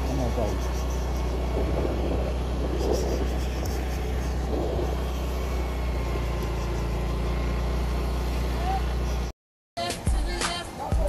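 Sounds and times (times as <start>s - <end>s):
motorcycle engine humming: 0.0s - 11.0s
road and wind noise: 0.0s - 11.0s.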